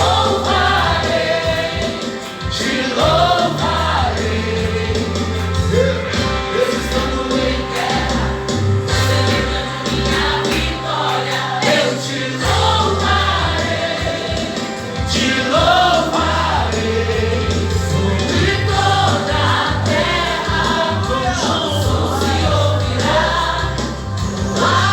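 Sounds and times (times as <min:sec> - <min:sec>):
bass holding long notes: 0:00.0 - 0:11.0, 0:12.2 - 0:24.9
band accompaniment: 0:00.0 - 0:24.9
group of voices singing: 0:00.0 - 0:24.9.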